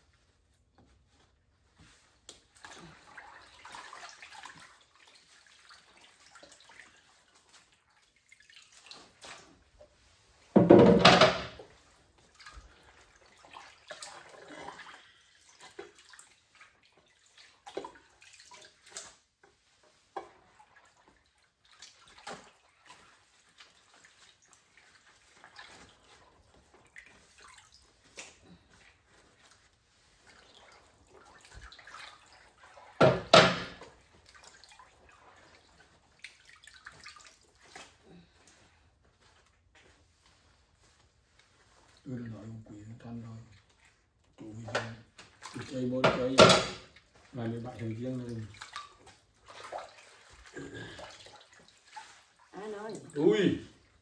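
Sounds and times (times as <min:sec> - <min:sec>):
water splashing in a basin: 0:01.9 - 0:54.0.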